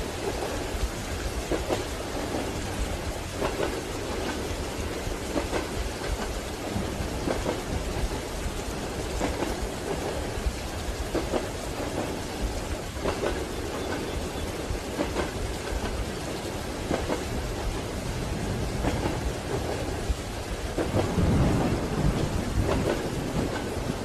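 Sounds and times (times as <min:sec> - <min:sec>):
steady rain: 0:00.0 - 0:24.0
train wheels clacking on rails: 0:00.0 - 0:24.0.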